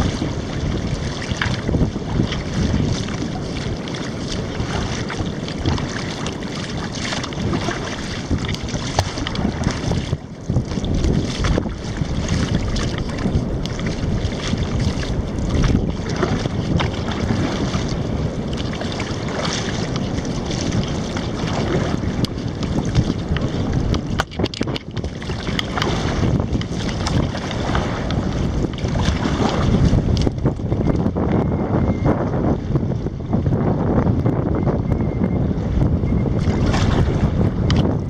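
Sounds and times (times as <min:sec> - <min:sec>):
water splashing from paddling: 0:00.0 - 0:31.0, 0:36.4 - 0:38.0
wind on microphone: 0:00.0 - 0:38.0.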